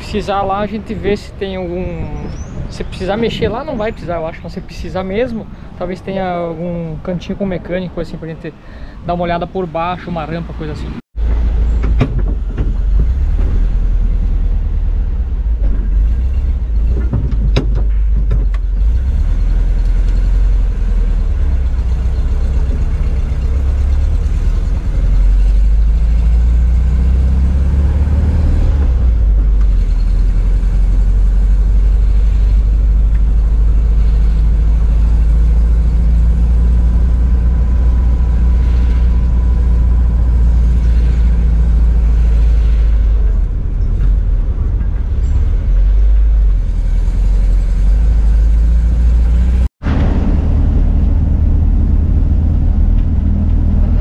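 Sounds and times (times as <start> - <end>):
van engine and road rumble: 0.0 - 54.0.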